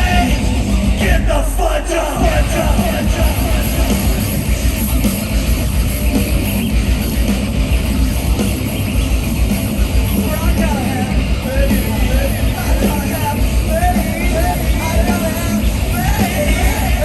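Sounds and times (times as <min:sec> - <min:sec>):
concert crowd: 0:00.0 - 0:17.0
heavy rock band playing live: 0:00.0 - 0:17.0.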